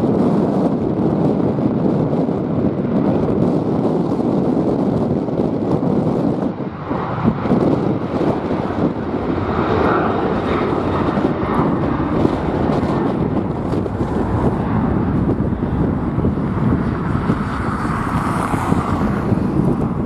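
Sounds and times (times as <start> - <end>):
jet airliner engines: 0.0 - 20.0
wind buffeting microphone: 0.0 - 20.0.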